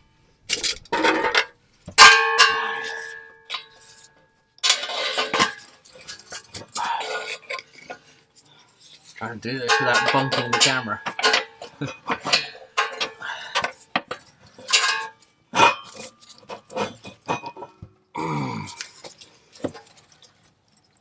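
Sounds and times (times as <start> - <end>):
metal clanks and scrapes: 0.0 - 18.0, 18.7 - 21.0.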